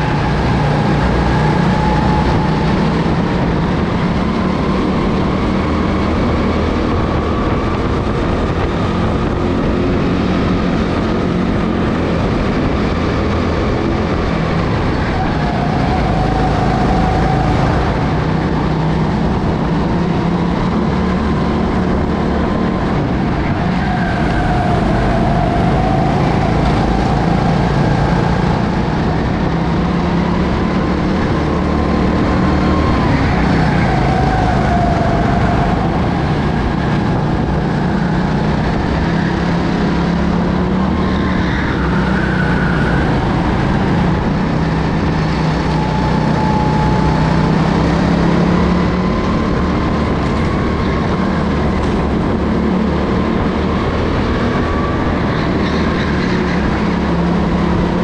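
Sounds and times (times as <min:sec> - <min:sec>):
go-kart engine revving: 0:00.0 - 0:58.0
wind rush: 0:00.0 - 0:58.0.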